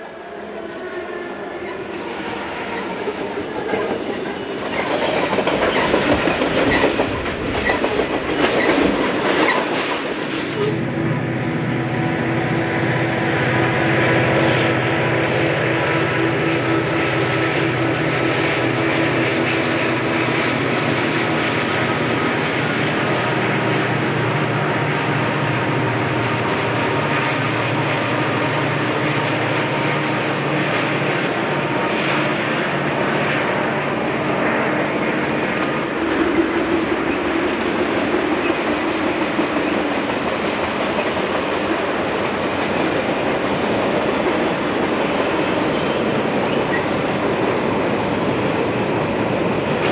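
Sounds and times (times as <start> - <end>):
diesel locomotive engine drone: 0.0 - 49.9
railcars rolling rumble: 0.0 - 49.9.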